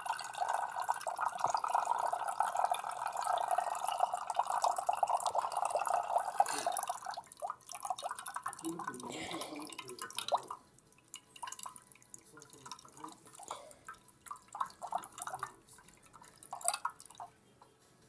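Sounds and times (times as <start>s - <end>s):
washing machine draining water: 0.0s - 17.2s.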